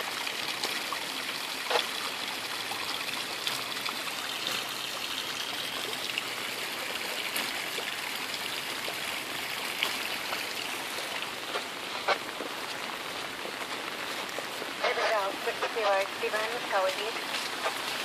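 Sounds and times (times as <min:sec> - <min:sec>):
heavy rain pouring: 0:00.0 - 0:18.0
runoff water trickling: 0:00.0 - 0:18.0.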